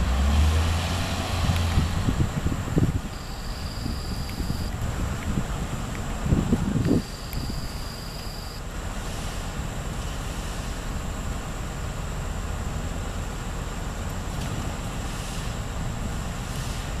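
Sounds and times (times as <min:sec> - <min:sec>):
wheel loader diesel engine rumbling: 0:00.0 - 0:17.0.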